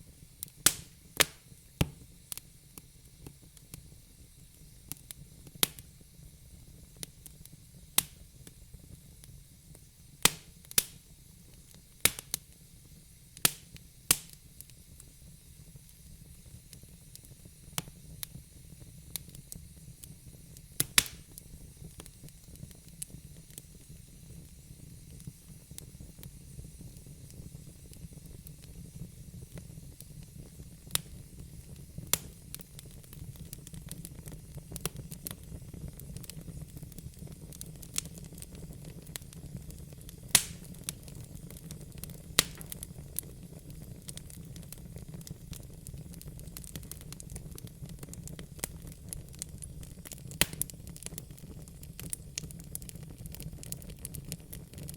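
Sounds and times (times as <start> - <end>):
fire flames rumbling: 0.0 - 12.5, 13.4 - 54.9
fire crackling and popping: 0.0 - 54.9.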